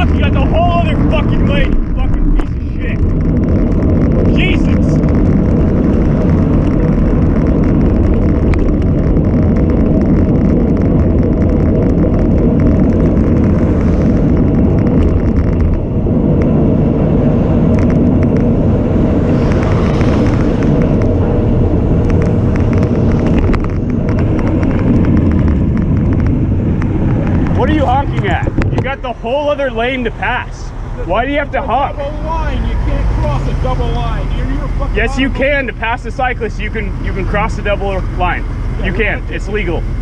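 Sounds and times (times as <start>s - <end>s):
car passing: 0.0s - 40.0s
road noise: 0.0s - 40.0s
wind rush on microphone: 0.0s - 40.0s.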